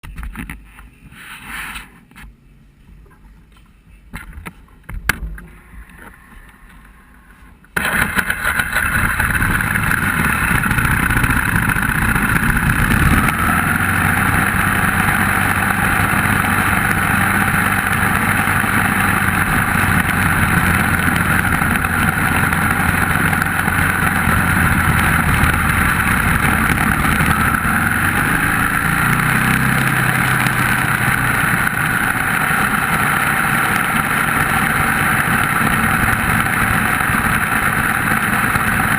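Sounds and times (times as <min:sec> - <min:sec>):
race car engine under load: 0:04.1 - 0:38.9.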